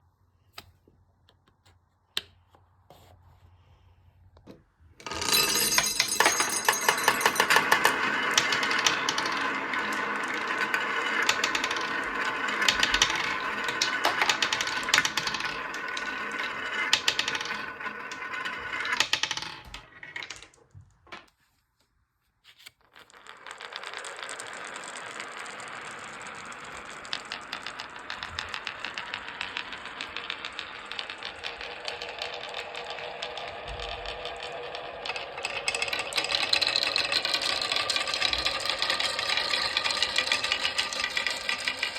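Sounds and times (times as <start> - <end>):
marbles rattling down wooden run: 5.0 - 20.7, 22.9 - 41.9.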